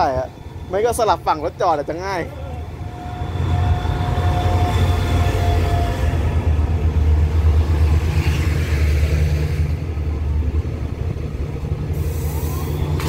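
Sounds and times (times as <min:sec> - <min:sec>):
train arriving low rumble: 0:00.0 - 0:13.0.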